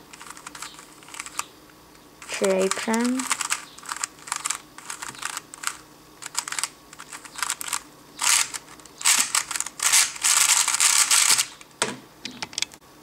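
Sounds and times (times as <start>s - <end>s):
puzzle cube layers clicking: 0.2s - 1.5s, 2.3s - 11.6s.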